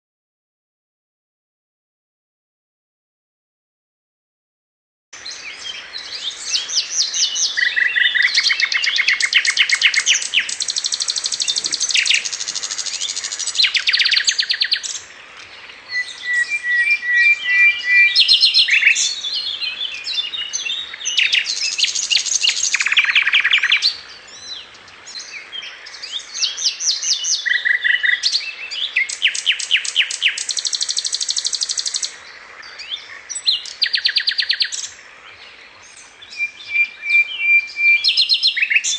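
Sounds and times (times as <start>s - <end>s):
songbird trilling: 5.2s - 35.0s, 35.8s - 38.9s.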